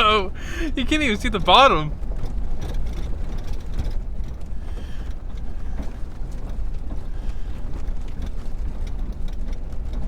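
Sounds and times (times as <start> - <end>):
road rumble inside vehicle: 0.0 - 10.0.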